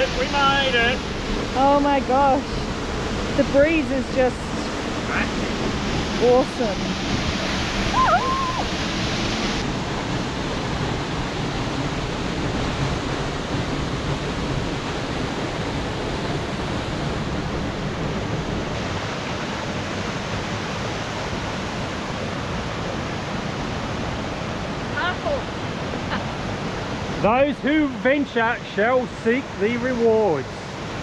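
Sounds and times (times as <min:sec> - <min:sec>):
creek water cascading: 0:00.0 - 0:31.0
waterfall rushing: 0:00.0 - 0:31.0.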